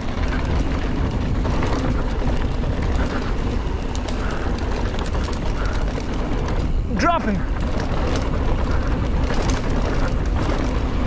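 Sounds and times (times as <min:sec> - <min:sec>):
bike rattling and clicking: 0:00.0 - 0:11.0
bike tyres rolling on dirt: 0:00.0 - 0:11.0
wind rushing on microphone: 0:00.0 - 0:11.0.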